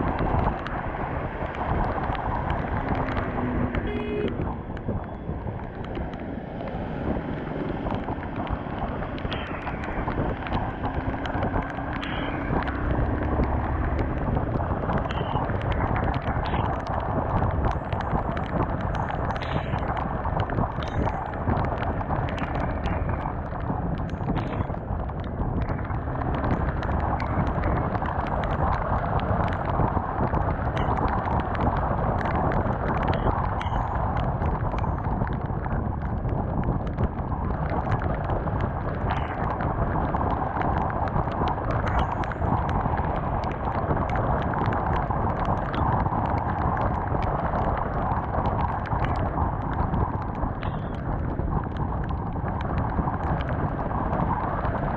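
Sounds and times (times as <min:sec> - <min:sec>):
road noise: 0:00.0 - 0:54.9
wind rush: 0:00.0 - 0:54.9.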